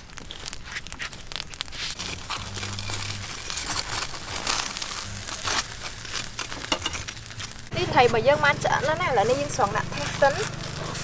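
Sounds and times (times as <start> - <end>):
fish grilling over charcoal crackling: 0.0 - 11.0.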